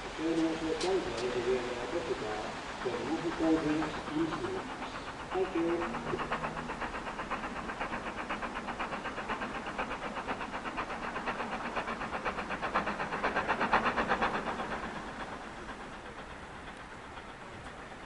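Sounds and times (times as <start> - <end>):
steam locomotive chuffing: 0.0 - 18.0.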